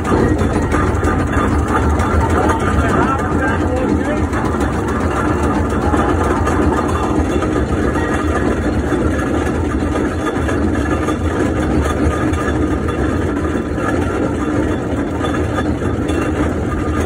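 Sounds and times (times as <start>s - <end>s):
steam engine running: 0.0s - 17.0s.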